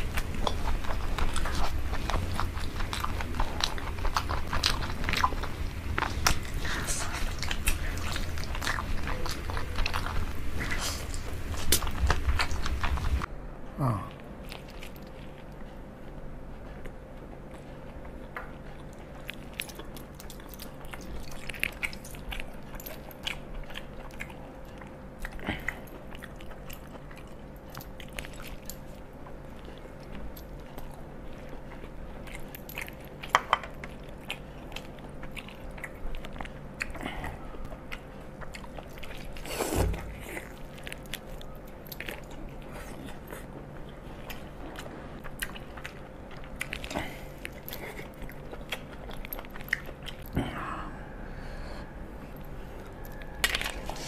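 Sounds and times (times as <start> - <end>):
faint steady hum: 0.0 - 54.0
person chewing food: 0.0 - 54.0.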